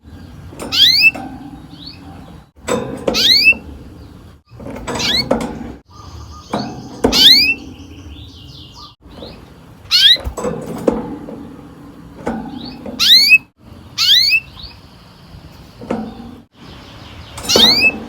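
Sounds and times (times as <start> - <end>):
canary singing: 0.0 - 10.4, 11.9 - 18.0.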